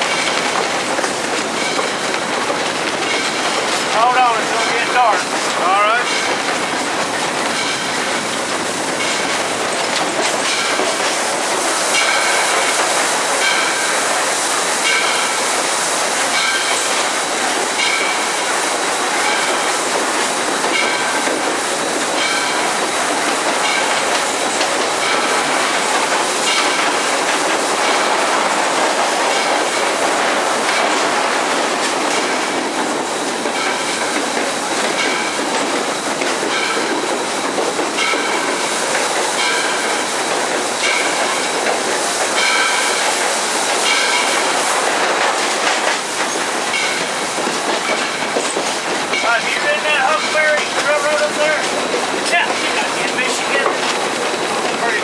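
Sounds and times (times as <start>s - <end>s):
steam locomotive running noise: 0.0s - 55.0s
wheels clicking over rail joints: 0.0s - 55.0s.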